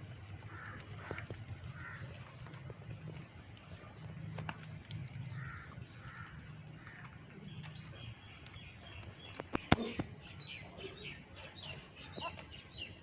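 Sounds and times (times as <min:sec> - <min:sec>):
birds calling: 0:00.1 - 0:13.0.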